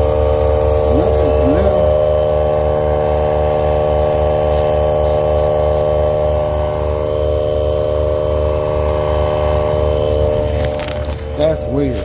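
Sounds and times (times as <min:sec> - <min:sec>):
portable air pump running: 0:00.0 - 0:12.0.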